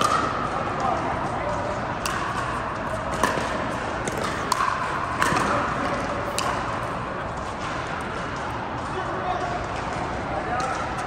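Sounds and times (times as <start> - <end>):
hum of large hall: 0.0 - 11.0.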